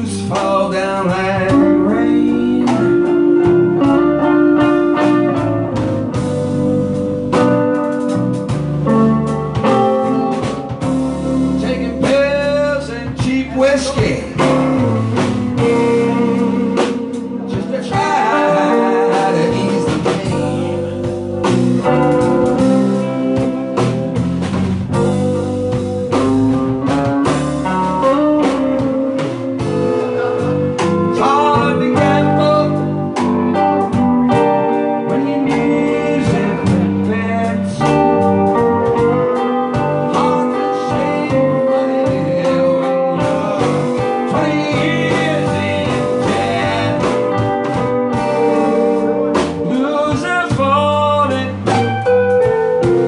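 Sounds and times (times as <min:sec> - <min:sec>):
bass: 0:00.0 - 0:53.0
drums: 0:00.0 - 0:53.0
electric guitar solo: 0:01.5 - 0:12.0, 0:14.5 - 0:50.0, 0:51.6 - 0:53.0.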